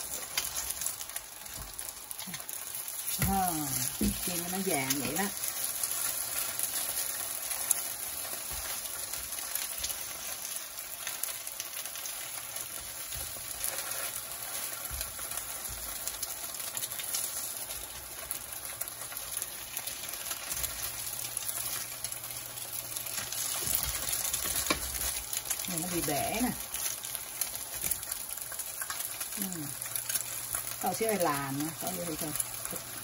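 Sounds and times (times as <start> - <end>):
faint crackles: 0.0 - 33.0
food sizzling in hot oil: 0.0 - 33.0.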